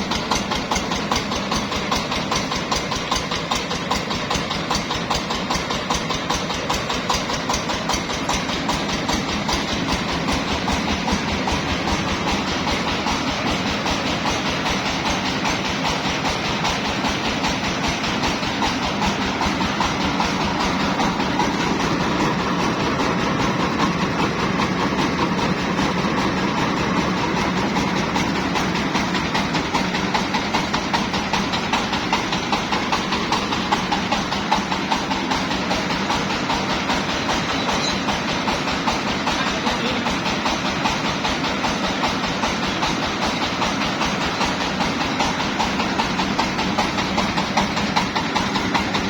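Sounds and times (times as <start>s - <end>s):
rice milling machine clattering: 0.0s - 49.0s.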